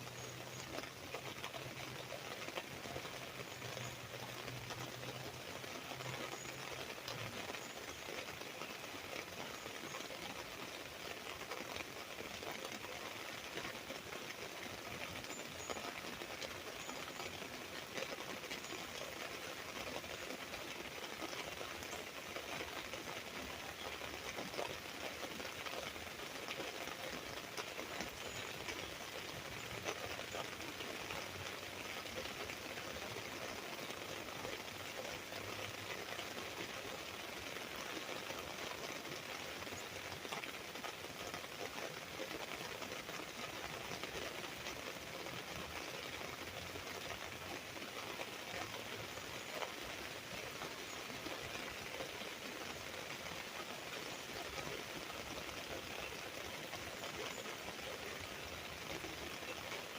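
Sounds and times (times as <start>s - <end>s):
rain pattering on umbrella: 0.0s - 59.9s.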